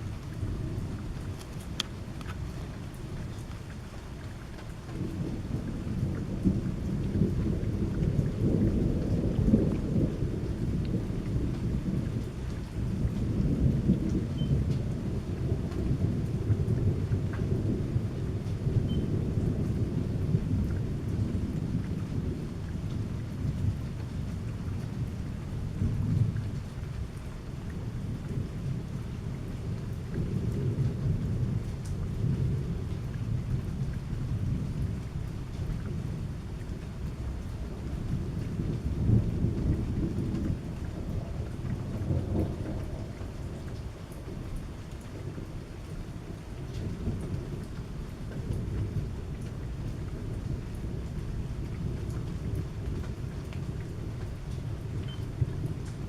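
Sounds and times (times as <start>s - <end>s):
rolling thunder: 0.0s - 56.0s
steady rain falling: 0.0s - 56.0s.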